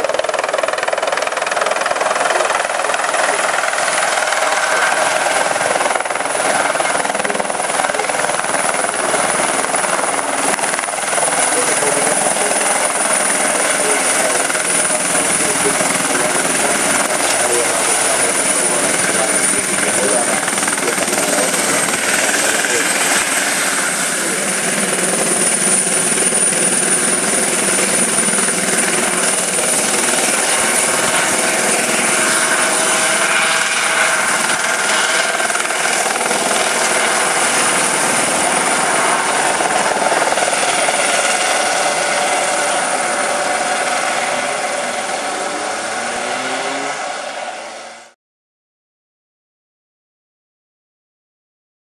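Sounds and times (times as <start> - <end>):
helicopter rotor and engine noise: 0.0 - 48.2.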